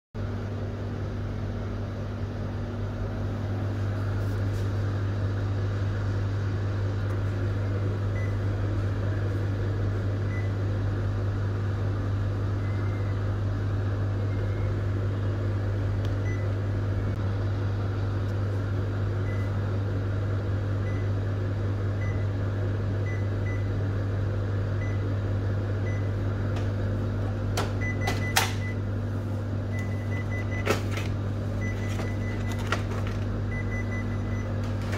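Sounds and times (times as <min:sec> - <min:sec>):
copier humming: 0:00.2 - 0:34.9.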